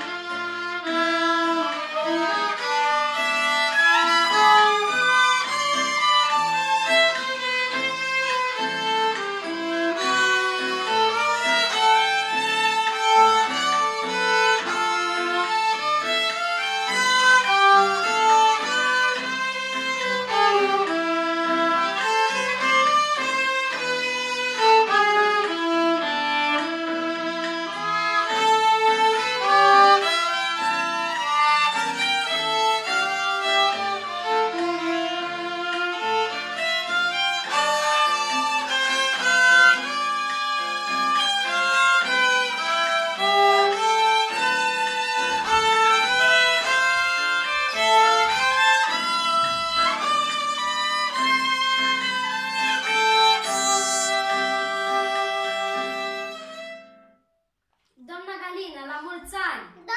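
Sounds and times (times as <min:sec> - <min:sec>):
violin duet: 0:00.0 - 0:57.2.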